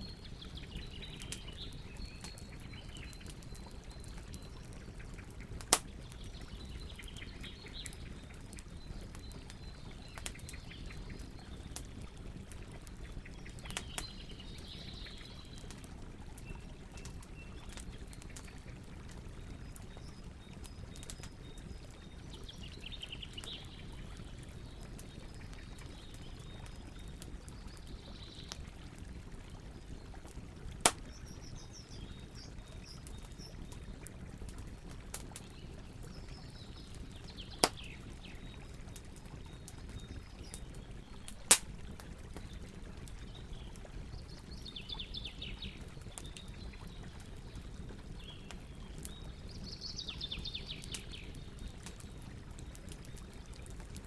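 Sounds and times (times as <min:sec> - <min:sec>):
campfire popping: 0:00.0 - 0:54.0.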